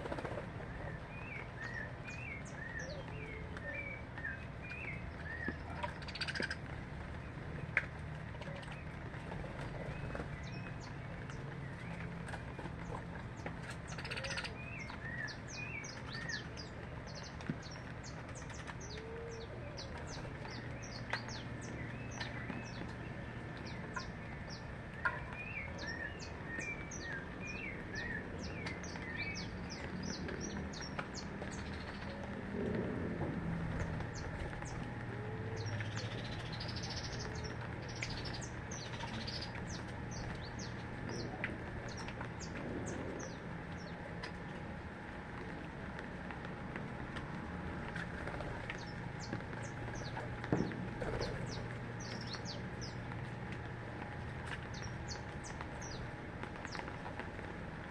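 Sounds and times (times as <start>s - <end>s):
small birds chirping and calling: 0.0s - 32.8s, 33.7s - 44.7s, 47.8s - 57.2s
steady low hum: 0.0s - 57.9s.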